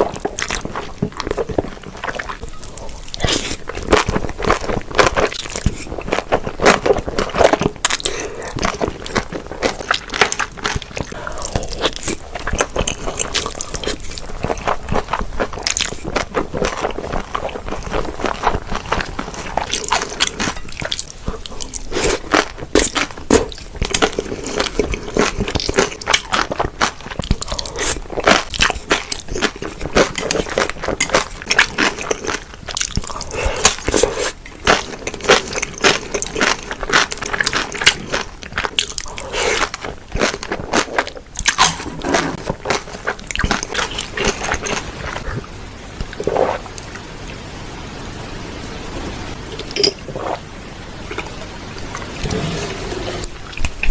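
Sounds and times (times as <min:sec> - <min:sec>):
chewing noodles close up: 0:00.0 - 0:47.0.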